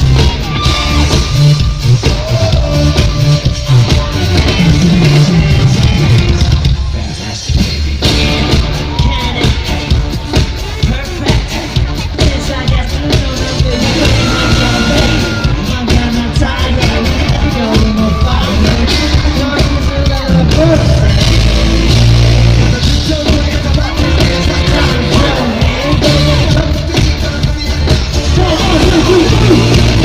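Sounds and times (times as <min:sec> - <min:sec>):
fans yelling: 0:00.0 - 0:07.2, 0:08.0 - 0:30.0
loud live pop music: 0:00.0 - 0:30.0
person singing: 0:00.0 - 0:30.0.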